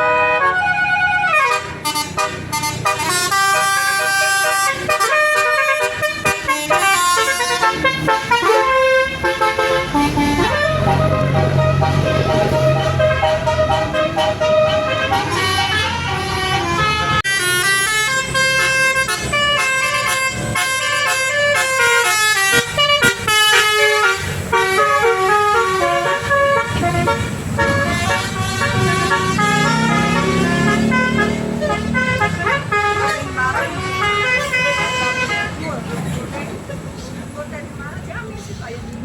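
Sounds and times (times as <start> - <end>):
musical air horn melody: 0.0 - 35.6.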